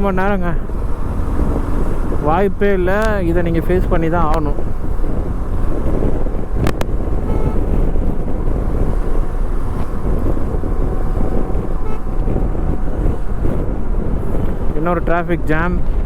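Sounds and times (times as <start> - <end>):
motorcycle and traffic rumble: 0.0 - 16.0
wind buffeting microphone: 0.0 - 16.0.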